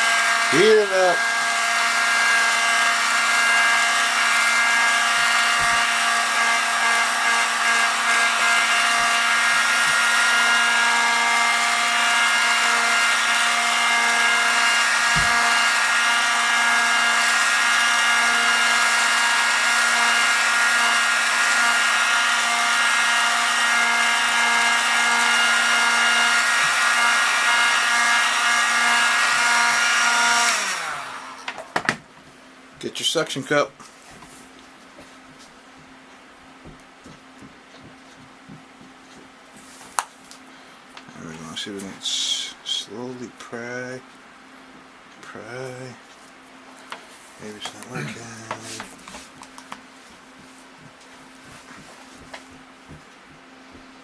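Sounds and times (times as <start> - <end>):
heat gun fan whirring: 0.0 - 54.0.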